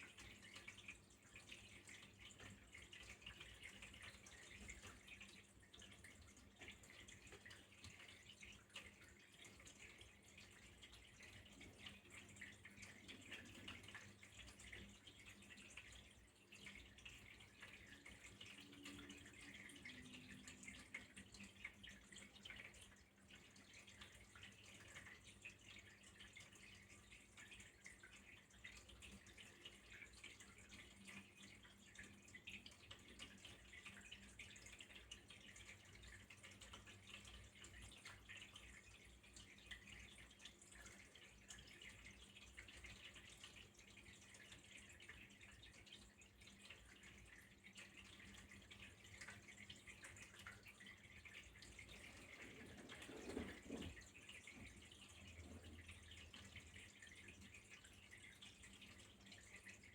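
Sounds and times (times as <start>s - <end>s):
dripping patter: 0.0s - 59.9s
water trickling: 0.0s - 59.9s.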